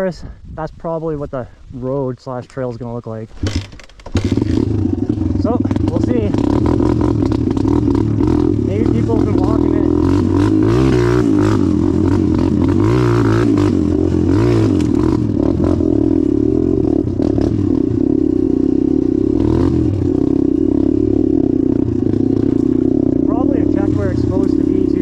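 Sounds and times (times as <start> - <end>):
dirt bike engine revving: 3.3 - 25.0.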